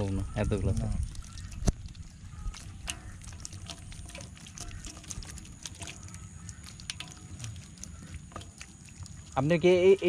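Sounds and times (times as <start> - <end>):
water splashes and drips: 0.0 - 10.0
small clicks and ticks: 0.6 - 9.6.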